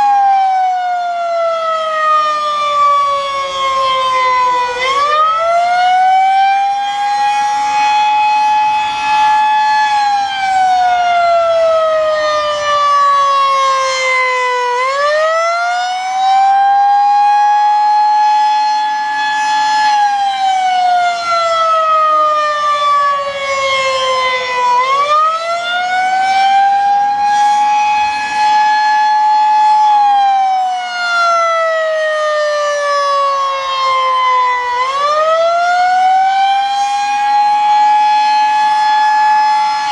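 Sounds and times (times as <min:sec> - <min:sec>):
rising and falling warning siren: 0:00.0 - 0:39.9.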